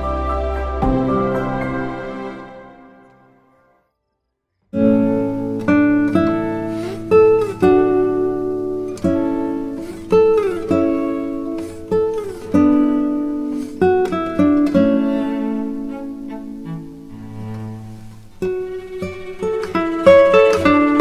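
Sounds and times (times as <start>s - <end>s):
solo acoustic guitar: 0.0s - 3.3s, 4.7s - 21.0s.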